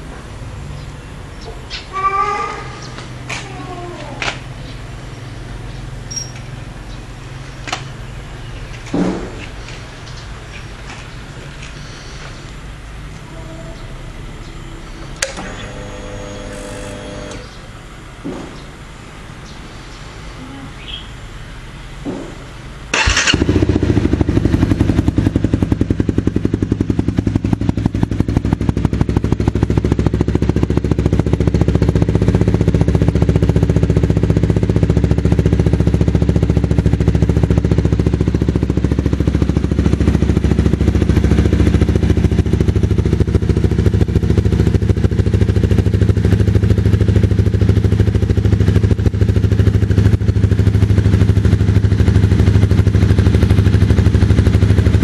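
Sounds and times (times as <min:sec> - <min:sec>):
motorcycle engine idling: 0:02.7 - 0:20.0, 0:20.8 - 0:55.0.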